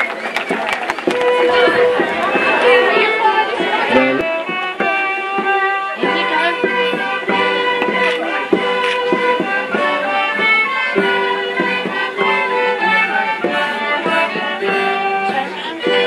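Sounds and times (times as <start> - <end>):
violins and guitar folk dance tune: 0.0 - 16.0.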